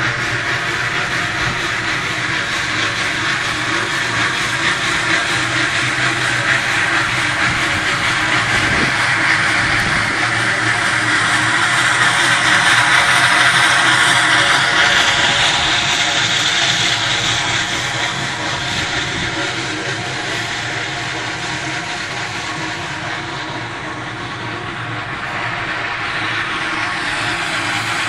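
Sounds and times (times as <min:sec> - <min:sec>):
stone-cutting saw drone: 0:00.0 - 0:28.0.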